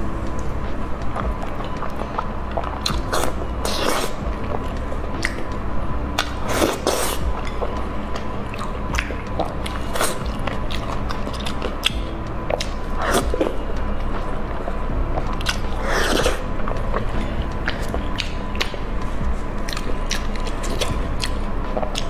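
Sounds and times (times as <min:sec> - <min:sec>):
background music: 0:00.0 - 0:22.0
person chewing food: 0:00.0 - 0:22.0.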